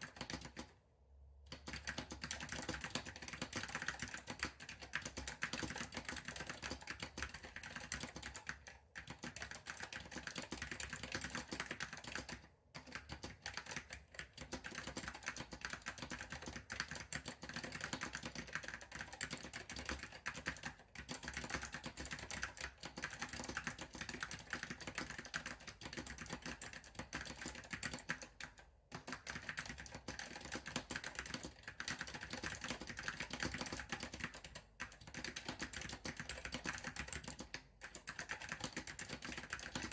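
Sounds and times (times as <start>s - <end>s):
fast typing on keyboard: 0.0s - 0.8s, 1.5s - 39.9s.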